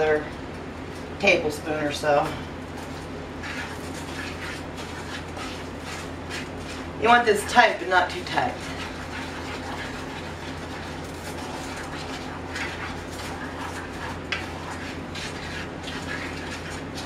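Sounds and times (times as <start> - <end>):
spoon stirring in a pan: 0.0 - 17.0
steady low hum: 0.0 - 17.0.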